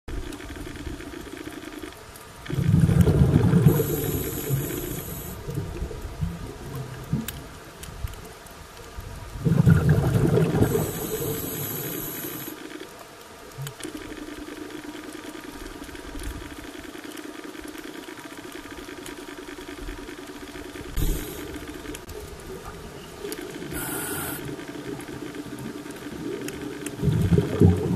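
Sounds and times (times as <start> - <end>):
crackling bubbling water underwater: 0.1 - 27.9.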